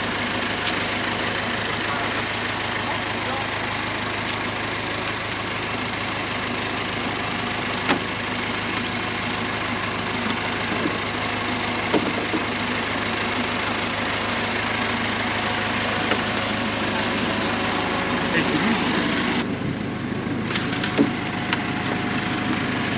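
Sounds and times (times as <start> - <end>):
tractor engine idling: 0.0 - 22.9.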